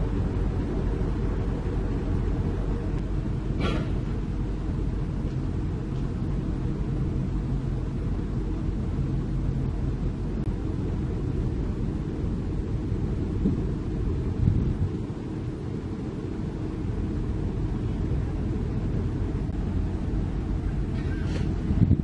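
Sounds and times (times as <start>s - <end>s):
excavator engines rumbling: 0.0s - 22.0s.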